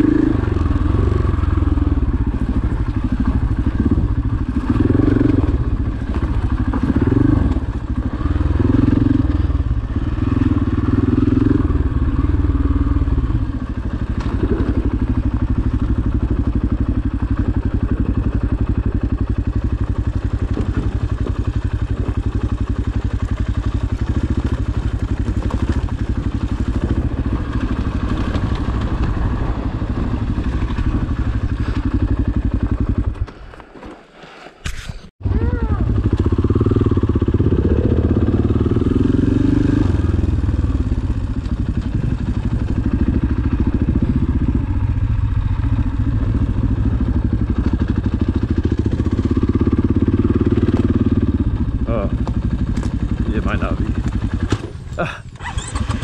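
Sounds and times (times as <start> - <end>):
dirt bike engine revving: 0.0 - 33.3, 34.8 - 56.0.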